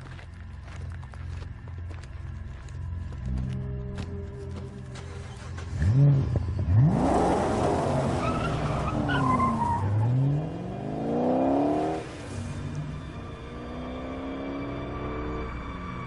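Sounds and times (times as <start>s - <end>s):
tyres skidding: 0.0s - 16.0s
car engine revving: 3.1s - 16.0s.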